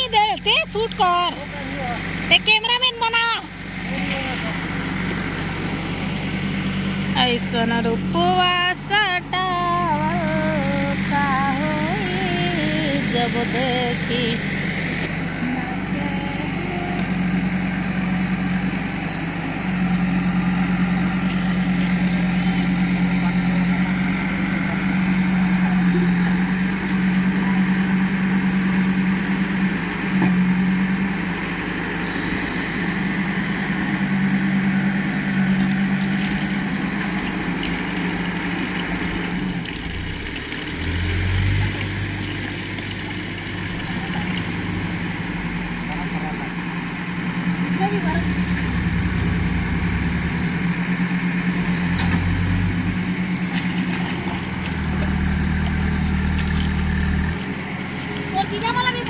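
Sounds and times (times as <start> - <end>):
engine humming: 0.0 - 59.0.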